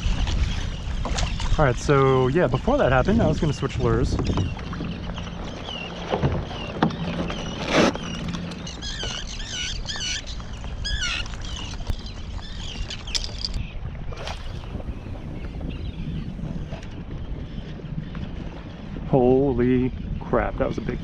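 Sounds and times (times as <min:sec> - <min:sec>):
seabirds calling: 0:00.0 - 0:21.0.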